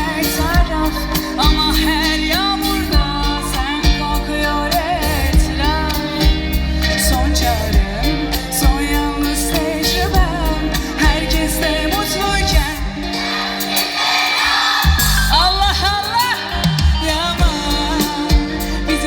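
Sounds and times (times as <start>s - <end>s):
bass: 0.0s - 19.0s
live pop song over sound system: 0.0s - 19.0s
ornamented singing voice: 0.0s - 19.0s.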